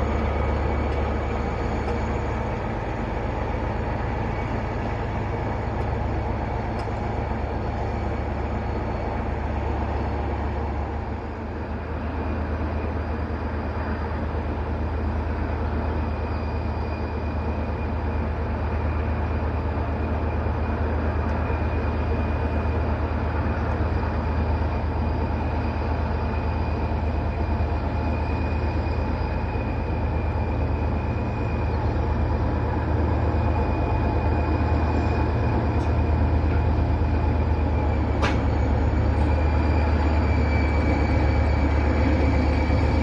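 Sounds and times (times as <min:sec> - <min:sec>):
diesel locomotive engine drone: 0:00.0 - 0:43.0
faint high whine: 0:00.0 - 0:43.0.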